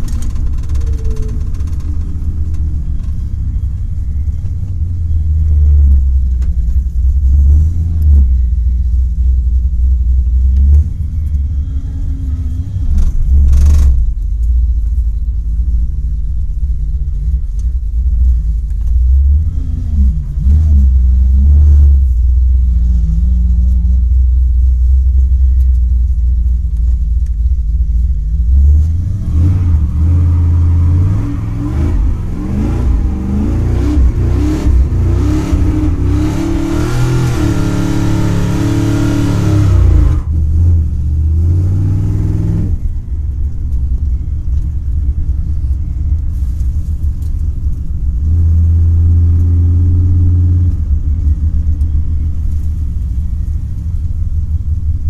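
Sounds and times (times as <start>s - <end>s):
car engine rough idle and revving: 0.0s - 55.0s.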